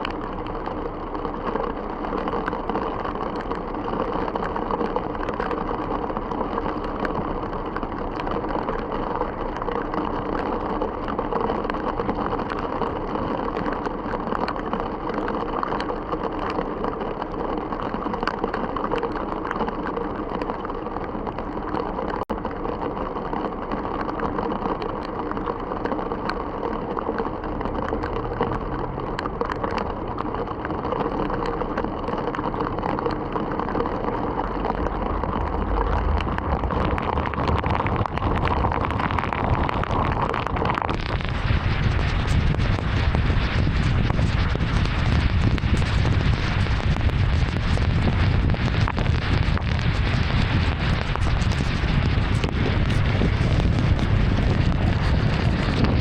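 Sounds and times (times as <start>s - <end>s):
tyres on wet road: 0.0s - 54.7s
heavy rain on car: 0.0s - 56.0s.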